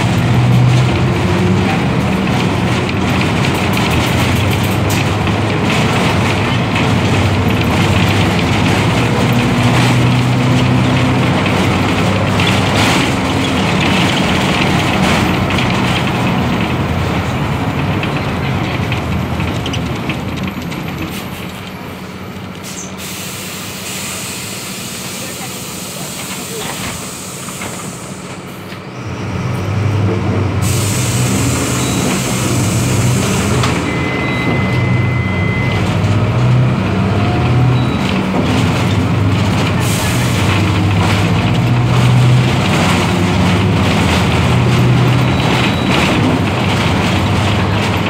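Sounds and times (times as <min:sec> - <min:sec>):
bus diesel engine running: 0:00.0 - 0:48.0.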